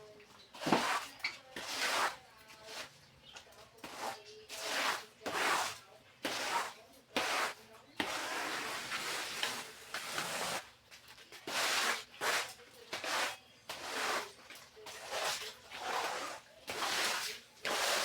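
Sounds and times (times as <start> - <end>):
scrubbing strokes: 0.6 - 2.9, 3.8 - 10.7, 11.4 - 18.0.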